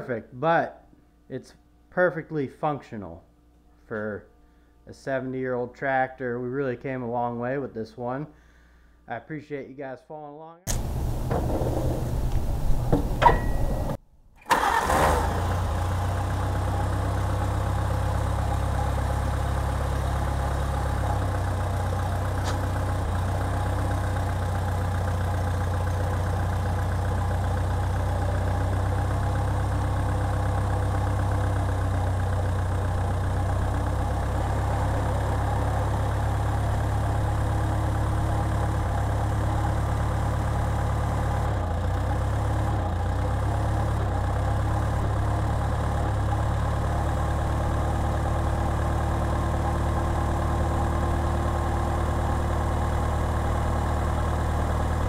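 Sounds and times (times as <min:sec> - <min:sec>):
tractor engine droning: 0:10.7 - 0:55.0.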